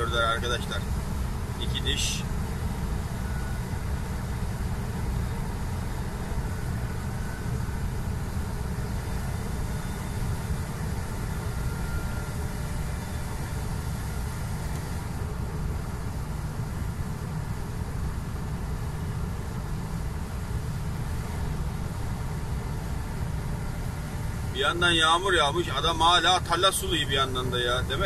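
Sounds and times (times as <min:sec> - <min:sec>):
truck engine low rumble: 0:00.0 - 0:28.0.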